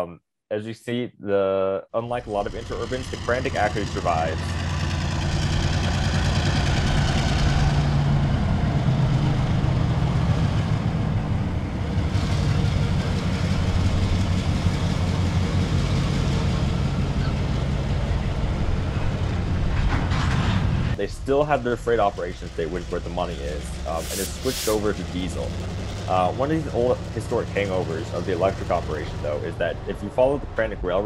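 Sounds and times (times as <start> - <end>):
diesel locomotive engine: 2.0 - 31.0.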